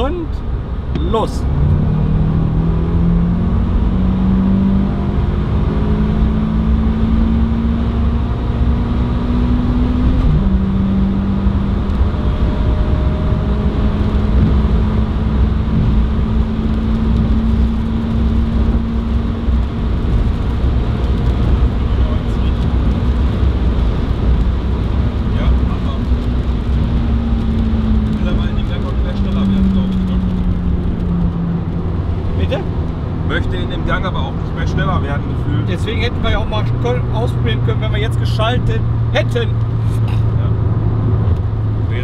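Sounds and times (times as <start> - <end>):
car engine at full throttle: 0.0 - 42.0
low road rumble: 0.0 - 42.0.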